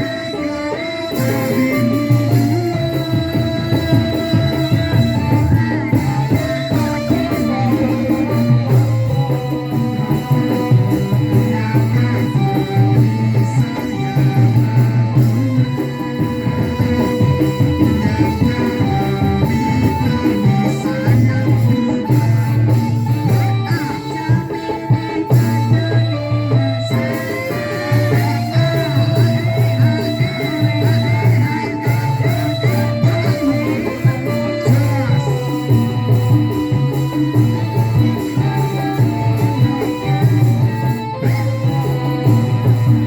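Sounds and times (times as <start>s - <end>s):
live band instrumental music: 0.0s - 43.0s.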